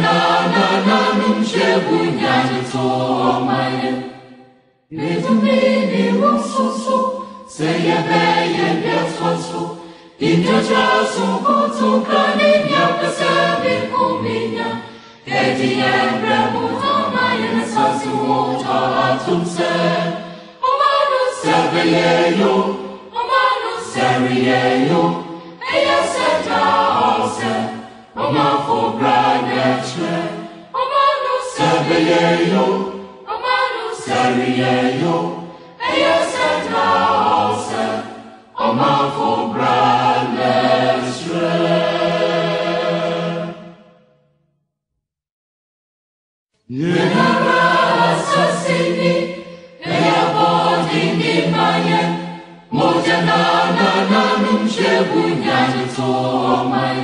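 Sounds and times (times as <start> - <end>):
choir singing: 0.0 - 44.1, 46.7 - 57.0.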